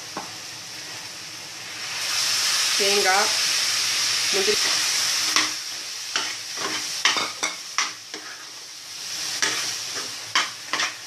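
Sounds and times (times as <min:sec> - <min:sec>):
vegetables frying in hot oil: 0:00.0 - 0:11.0.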